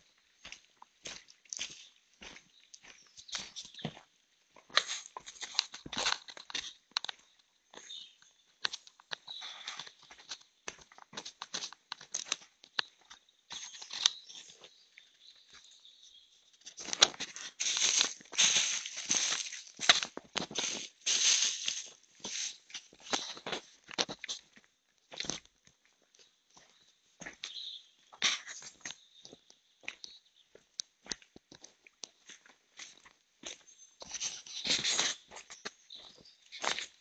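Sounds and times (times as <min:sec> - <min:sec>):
footsteps on dry leaves and twigs: 0:00.1 - 0:15.9, 0:16.6 - 0:37.0.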